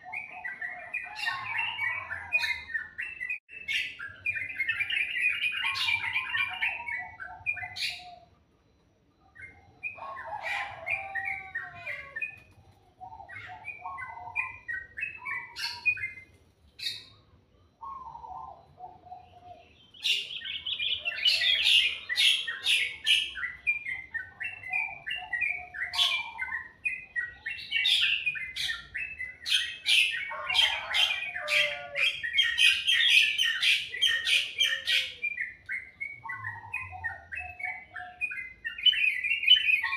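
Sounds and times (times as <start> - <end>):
songbird chirping and warbling: 0.0 - 39.9.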